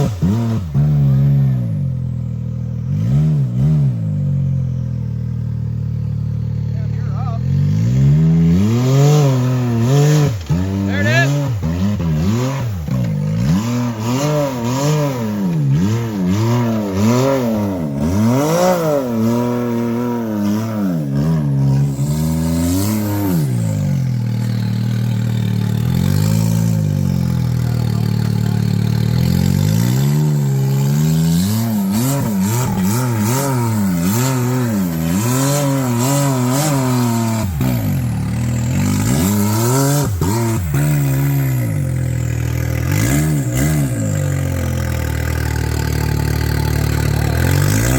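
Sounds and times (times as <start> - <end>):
utility vehicle engine revving: 0.0 - 47.9.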